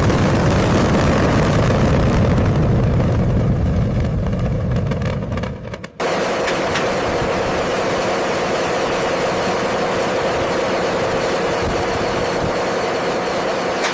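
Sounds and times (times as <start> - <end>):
mechanical engine rumble: 0.0 - 13.9.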